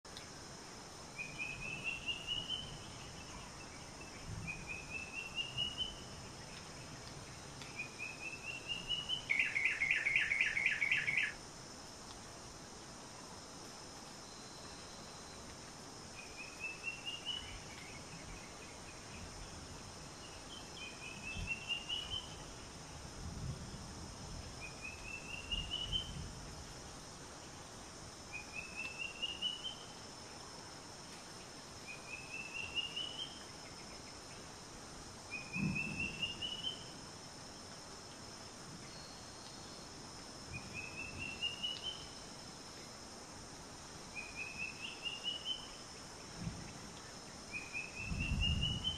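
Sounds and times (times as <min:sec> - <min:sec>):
background hiss: 0:00.0 - 0:48.9.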